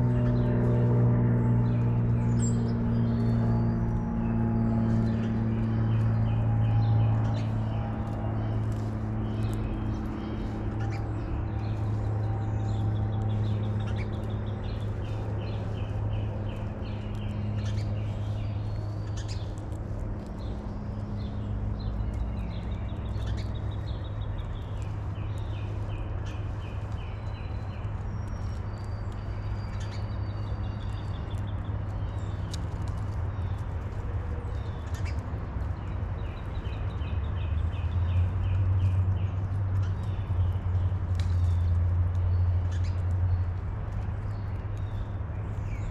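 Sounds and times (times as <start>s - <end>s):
small birds chirping: 0.0s - 45.9s
steady low hum: 0.0s - 45.9s.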